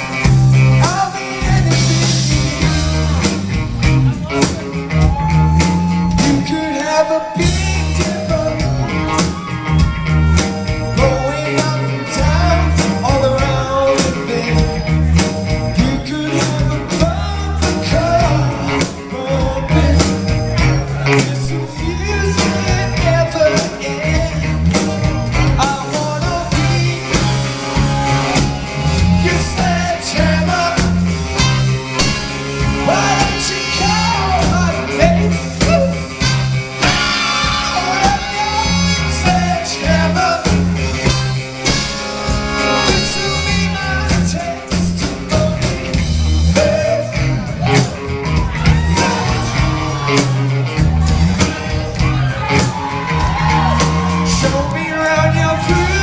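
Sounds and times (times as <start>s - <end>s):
rock music with singing: 0.0s - 56.0s.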